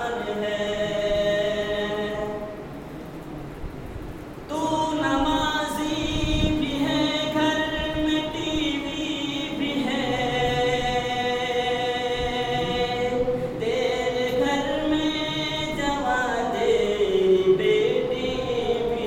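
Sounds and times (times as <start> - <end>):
man chanting into a microphone: 0.0 - 2.6, 4.5 - 19.0.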